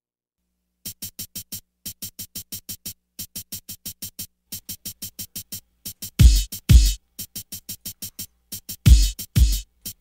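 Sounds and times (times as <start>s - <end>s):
drum machine hi-hat ticking: 0.8s - 10.0s.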